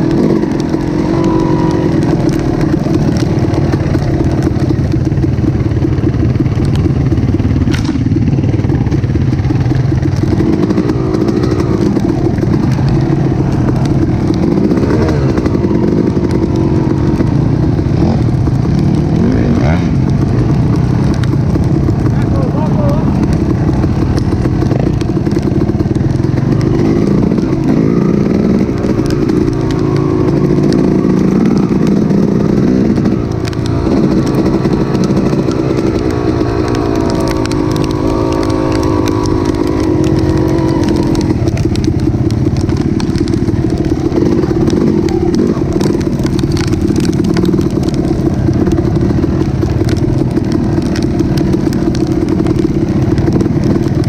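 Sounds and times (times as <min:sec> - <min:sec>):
engine running: 0:00.0 - 0:54.0
sharp ticks: 0:00.0 - 0:54.0.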